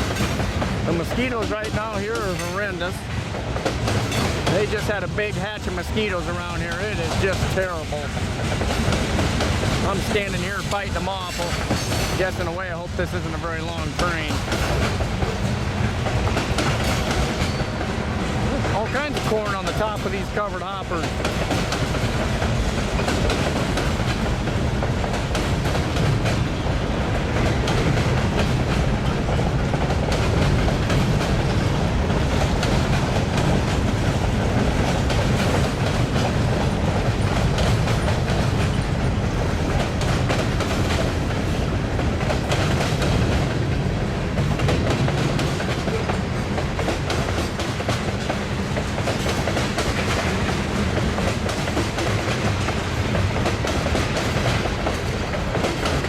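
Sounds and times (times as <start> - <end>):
freight train rumbling by: 0.0 - 56.0
wheels clicking on track: 0.0 - 56.0.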